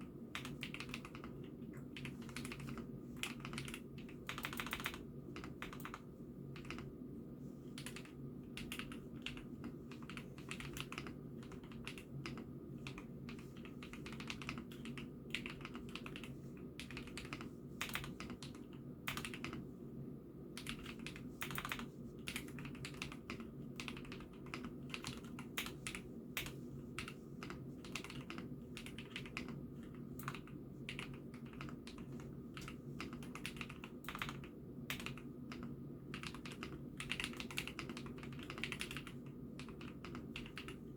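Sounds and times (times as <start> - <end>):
steady low hum: 0.0 - 40.9
mechanical keyboard typing: 0.3 - 6.9, 7.8 - 19.6, 20.6 - 40.9.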